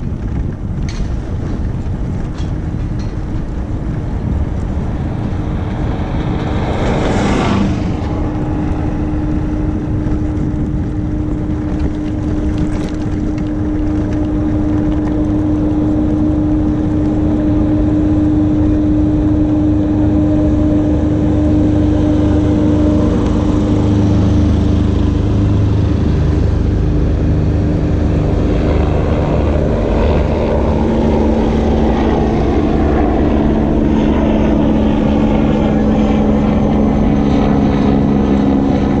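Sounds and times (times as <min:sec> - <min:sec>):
lower hum: 0:00.0 - 0:39.0
wind and road noise: 0:00.0 - 0:39.0.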